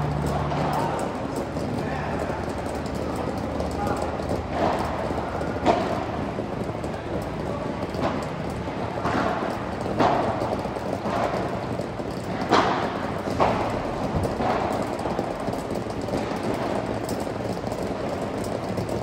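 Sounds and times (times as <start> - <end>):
steady low hum: 0.0 - 19.0
ball struck by rackets: 0.2 - 6.4, 7.2 - 19.0.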